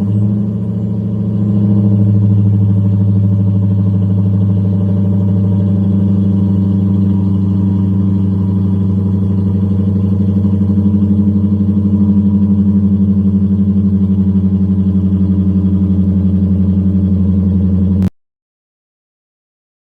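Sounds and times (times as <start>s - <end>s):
car exhaust idling: 0.0s - 18.1s.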